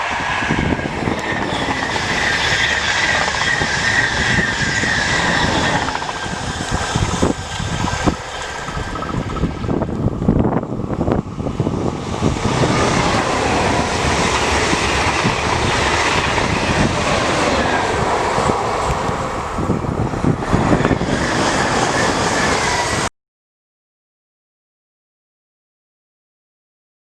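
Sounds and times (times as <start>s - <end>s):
train passing at speed: 0.0s - 23.1s.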